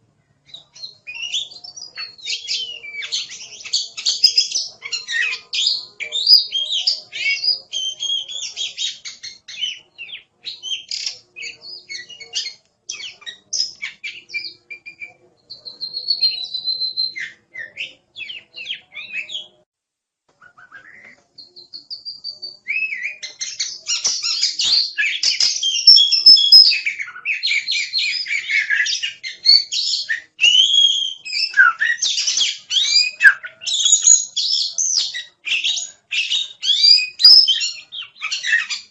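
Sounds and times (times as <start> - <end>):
bird singing whistles and trills: 0.4 - 19.6, 20.4 - 38.9.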